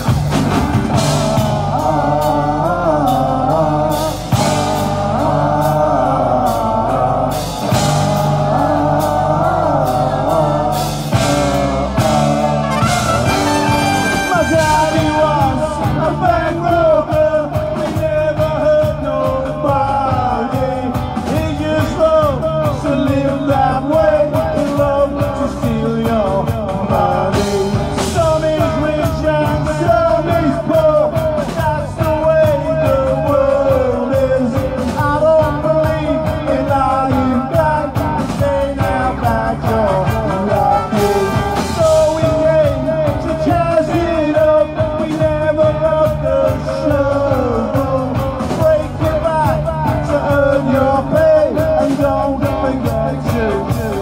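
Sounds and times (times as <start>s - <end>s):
live ska rock band: 0.0s - 54.0s.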